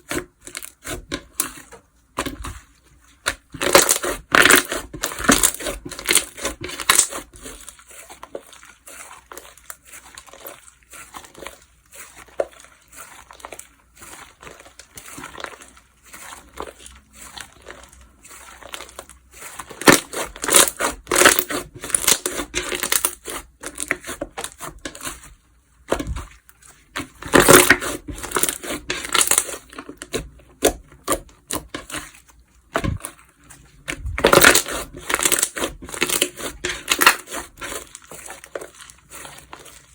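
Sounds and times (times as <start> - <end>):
slime squished by hand: 0.0 - 39.9.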